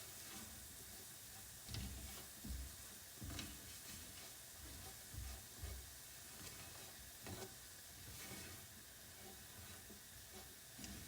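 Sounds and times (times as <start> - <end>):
faint sizzling in a pan: 0.0 - 11.0.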